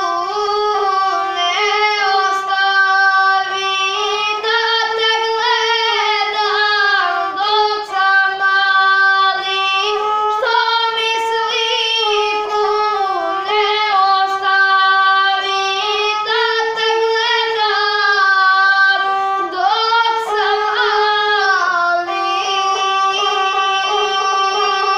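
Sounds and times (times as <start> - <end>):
bowed string instrument: 0.0 - 24.9
boy singing in a strained voice: 0.0 - 24.9.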